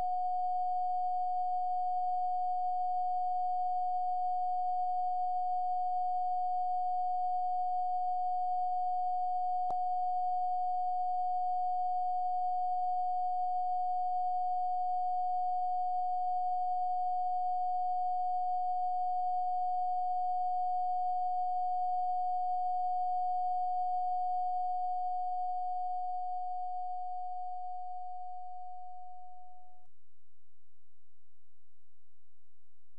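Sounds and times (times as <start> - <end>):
steady sine tone: 0.0 - 30.1.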